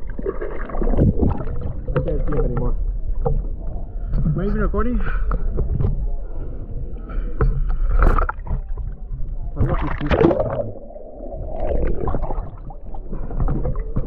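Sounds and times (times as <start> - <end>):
water sloshing and gurgling: 0.0 - 14.0.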